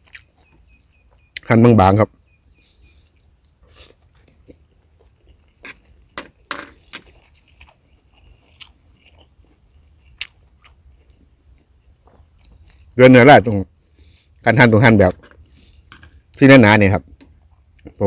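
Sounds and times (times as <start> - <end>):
insect chirring: 0.0 - 18.0.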